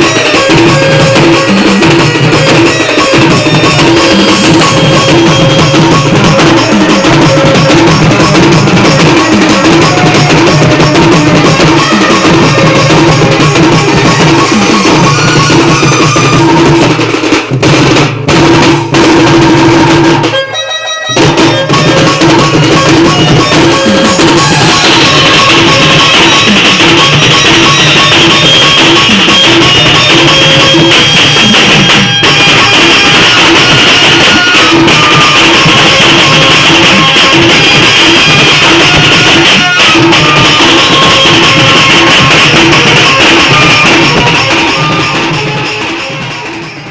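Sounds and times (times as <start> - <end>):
loud band music: 0.0 - 46.9.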